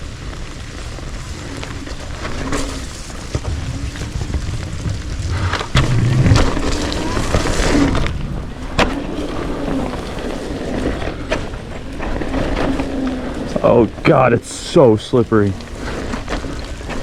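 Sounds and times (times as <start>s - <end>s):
tyres rolling over wet ground: 0.0s - 17.0s
wind rumbling on microphone: 0.0s - 17.0s.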